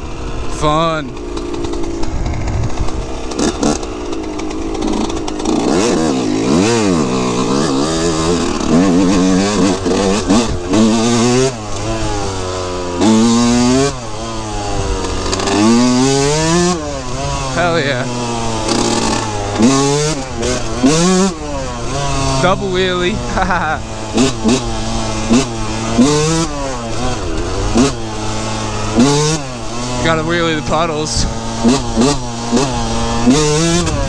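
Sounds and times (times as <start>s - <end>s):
two-stroke motorbike engine revving: 0.0s - 34.0s.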